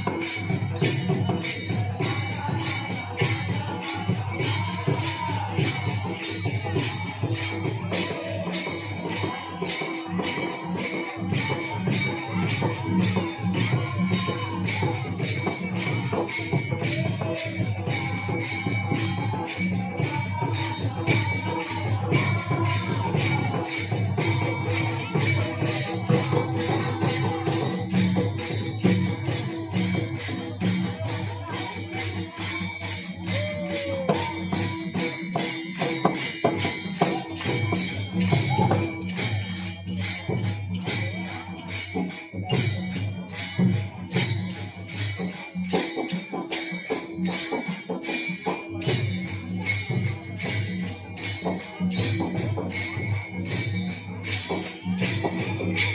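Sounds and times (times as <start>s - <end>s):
drum: 0.0s - 55.9s
hand cymbals clashing: 0.0s - 55.9s.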